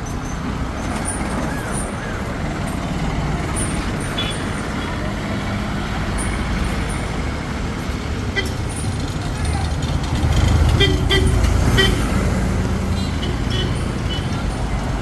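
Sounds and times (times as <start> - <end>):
heavy vehicle engine running: 0.0 - 15.0
traffic rumble and hiss: 0.0 - 15.0.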